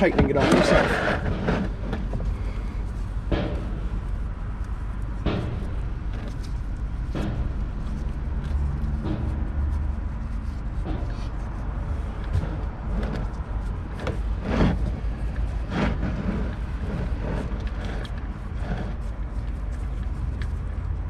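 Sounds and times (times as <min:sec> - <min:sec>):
steady low hum: 0:00.0 - 0:21.0
wrench clicks and scrapes: 0:00.0 - 0:21.0.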